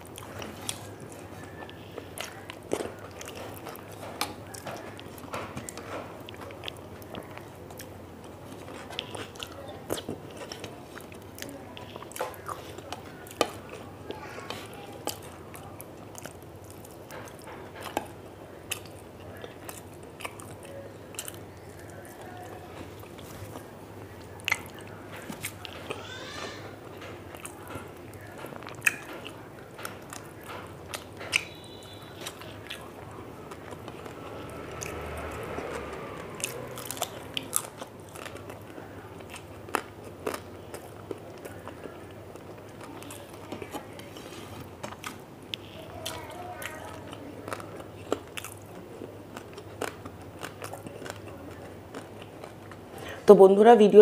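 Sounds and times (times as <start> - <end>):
crunching and chewing: 0.0 - 53.3.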